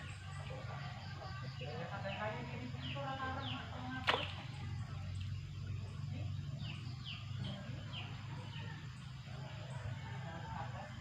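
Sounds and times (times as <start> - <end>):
birds chirping: 0.0 - 11.0
low steady hum: 0.0 - 11.0.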